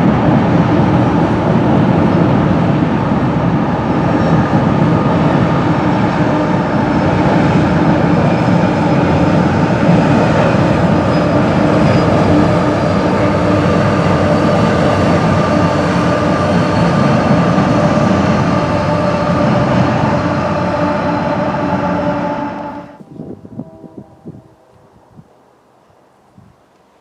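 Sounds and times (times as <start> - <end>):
freight train wheels rumbling: 0.0 - 25.8.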